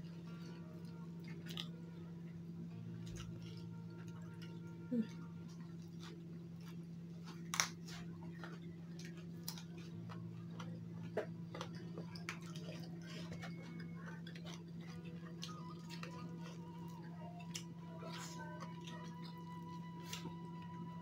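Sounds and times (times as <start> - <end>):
steady low hum: 0.0 - 21.0
chewing crunches: 0.2 - 1.8, 2.9 - 20.6.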